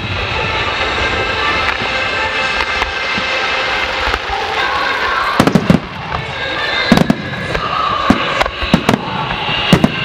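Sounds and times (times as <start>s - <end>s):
fireworks display din: 0.0s - 10.0s.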